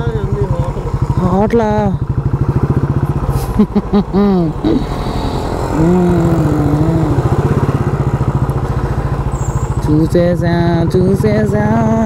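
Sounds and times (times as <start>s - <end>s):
voices: 0.0s - 2.2s, 3.4s - 12.0s
motorcycle engine running: 0.0s - 12.0s.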